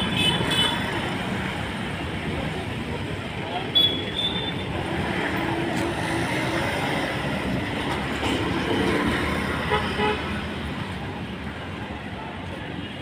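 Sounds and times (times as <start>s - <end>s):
passing vehicles rumbling: 0.0s - 13.0s.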